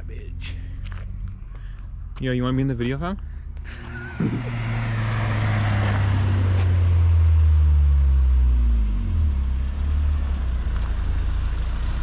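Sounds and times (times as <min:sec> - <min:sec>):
car exhaust rumble: 0:00.0 - 0:12.0.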